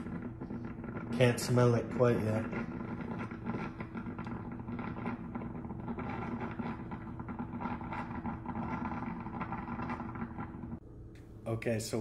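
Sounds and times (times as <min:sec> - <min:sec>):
coffee maker humming and crackling: 0:00.0 - 0:12.0.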